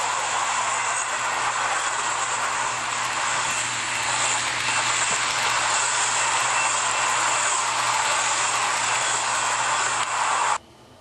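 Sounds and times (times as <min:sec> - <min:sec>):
model train wheels rushing on track: 0:00.0 - 0:10.6.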